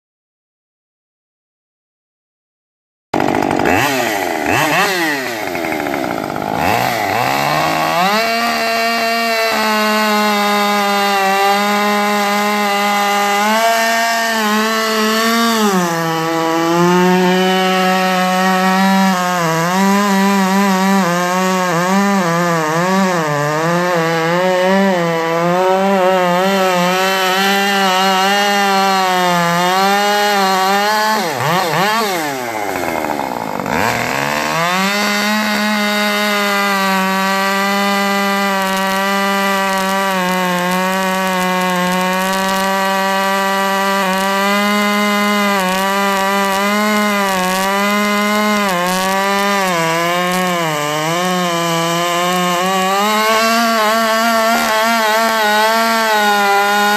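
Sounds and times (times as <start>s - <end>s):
chainsaw cutting log: 3.1s - 56.9s.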